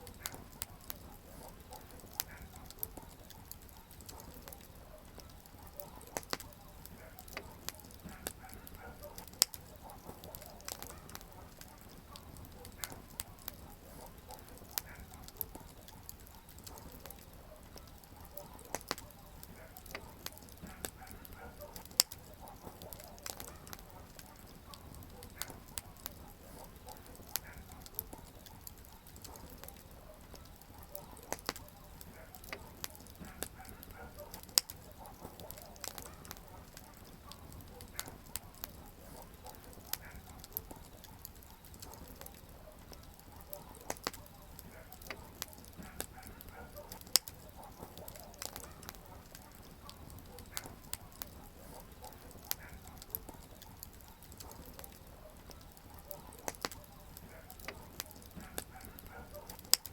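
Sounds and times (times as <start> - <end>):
campfire crackling and popping: 0.0 - 59.9
low rush of flames: 0.0 - 59.9.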